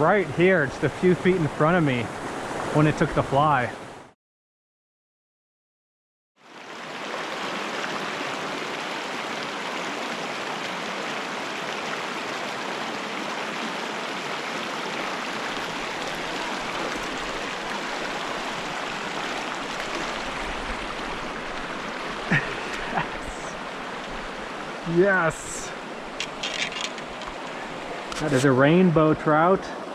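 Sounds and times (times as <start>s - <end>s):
creek water rushing: 0.0s - 4.1s, 6.4s - 29.9s.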